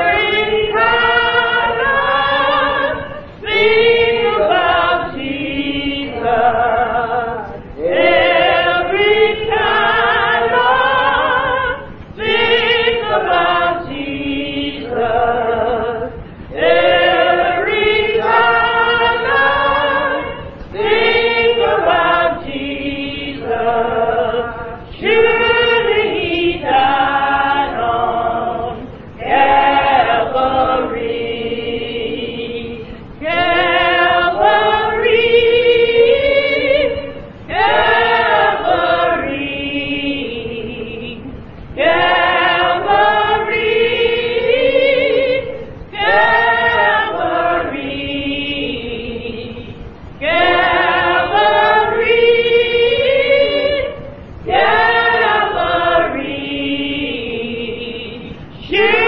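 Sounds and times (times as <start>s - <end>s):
choir singing gospel: 0.0s - 59.0s.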